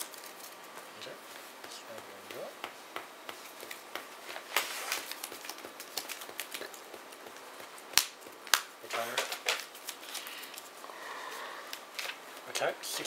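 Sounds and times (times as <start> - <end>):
cards tapping and sliding: 0.0 - 10.8, 11.6 - 12.7.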